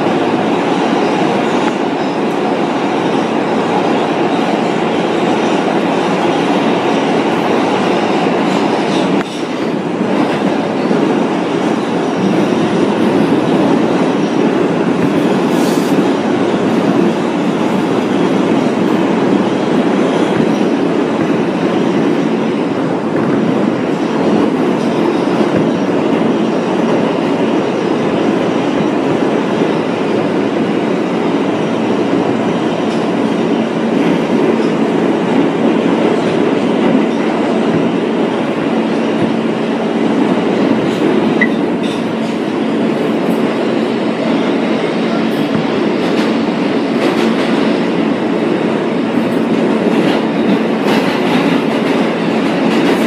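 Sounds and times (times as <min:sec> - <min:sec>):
subway train wheels on rail: 0:00.0 - 0:53.0.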